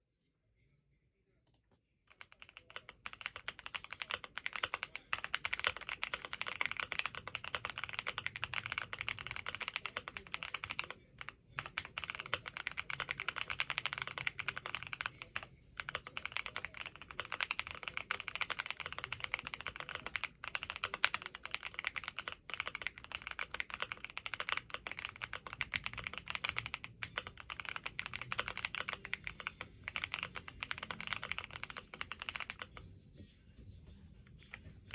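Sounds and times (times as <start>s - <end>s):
mechanical keyboard typing: 2.1s - 32.8s.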